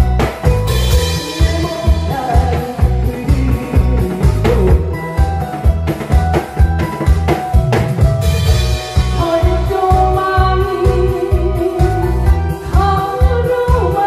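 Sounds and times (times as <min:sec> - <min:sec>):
barrel drums drumming: 0:00.0 - 0:14.0
fast disco backing track: 0:00.0 - 0:14.0.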